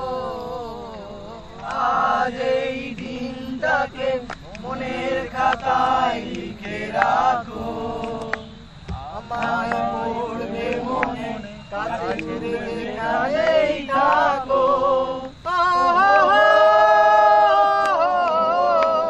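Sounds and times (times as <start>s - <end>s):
men singing without instruments: 0.0s - 19.0s.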